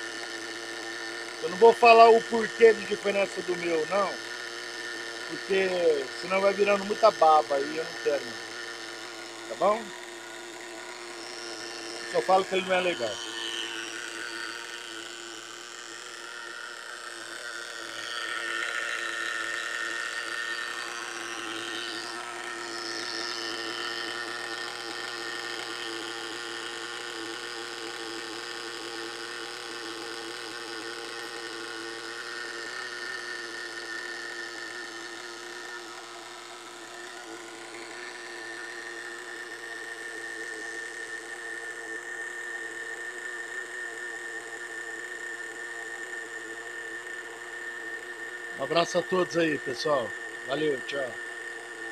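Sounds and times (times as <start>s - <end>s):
small nitro engine idling: 0.0s - 51.9s.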